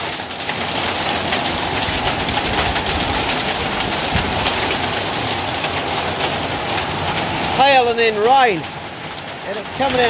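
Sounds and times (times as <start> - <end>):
heavy hail and rain: 0.0 - 10.0.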